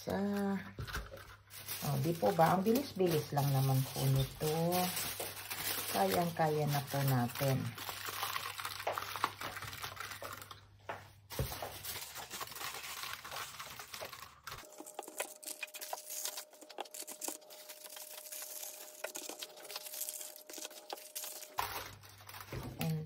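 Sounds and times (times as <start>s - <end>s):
foil crinkling: 0.0s - 10.7s, 11.3s - 23.0s.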